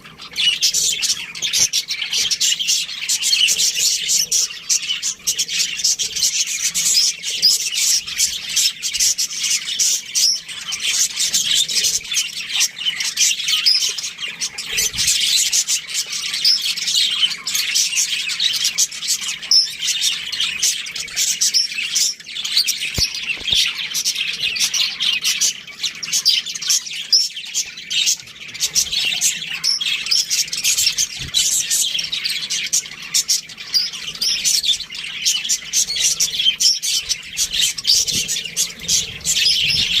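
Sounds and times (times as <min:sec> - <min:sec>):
budgerigars chirping: 0:00.0 - 0:40.0.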